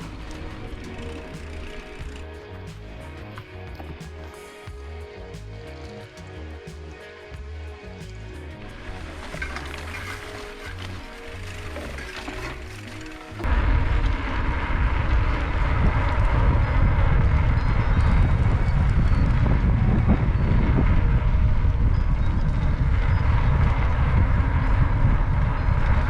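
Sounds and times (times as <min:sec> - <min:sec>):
heavy low rumble: 0:00.0 - 0:26.0
wind buffeting microphone: 0:00.0 - 0:26.0.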